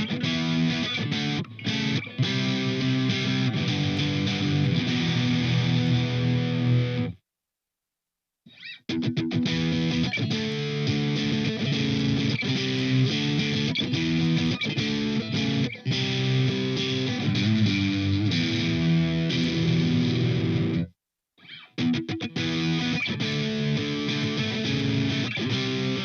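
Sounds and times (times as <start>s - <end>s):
distorted electric guitar chords: 0.0s - 7.2s, 8.9s - 20.9s, 21.8s - 26.0s.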